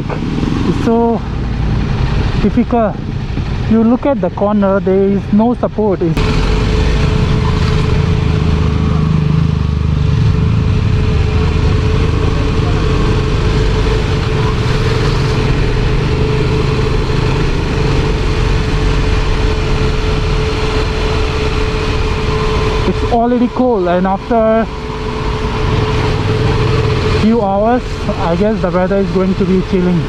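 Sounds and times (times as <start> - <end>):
motorcycle engine rumble: 0.0 - 30.0
wind and road noise: 0.0 - 30.0.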